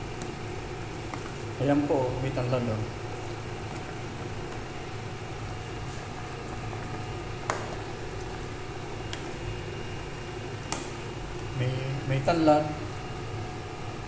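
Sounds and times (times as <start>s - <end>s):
pot simmering on gas burner: 0.0s - 14.0s.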